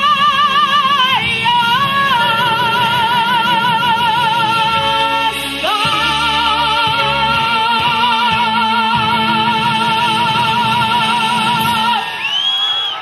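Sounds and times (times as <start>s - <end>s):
low musical accompaniment: 0.0s - 12.0s.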